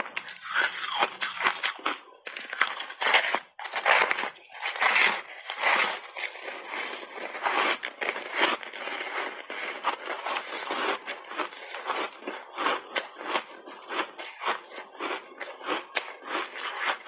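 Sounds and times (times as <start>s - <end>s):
ice crunching being chewed: 0.0s - 17.0s.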